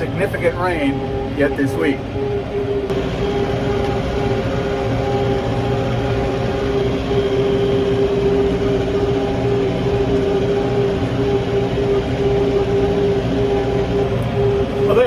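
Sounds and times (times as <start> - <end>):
tractor engine droning with whine: 0.0 - 15.0.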